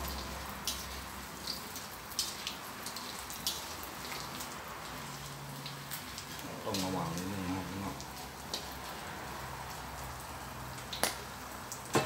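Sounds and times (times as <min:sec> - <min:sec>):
shrimp frying in hot oil: 0:00.0 - 0:12.0.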